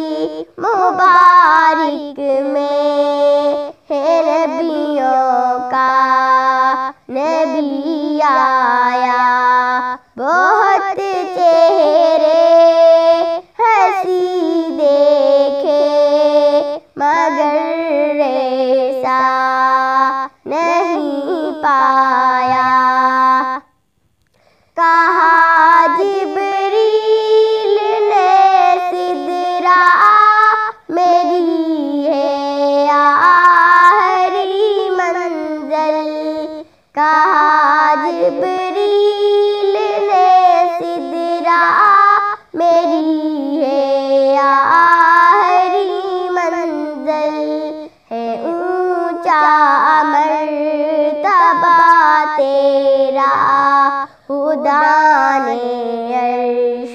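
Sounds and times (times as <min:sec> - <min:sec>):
girl singing unaccompanied: 0:00.0 - 0:56.9.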